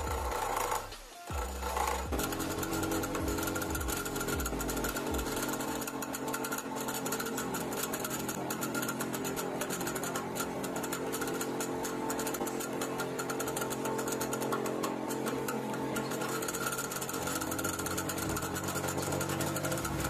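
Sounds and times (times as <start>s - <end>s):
cutting machine humming and ticking: 0.0s - 20.0s.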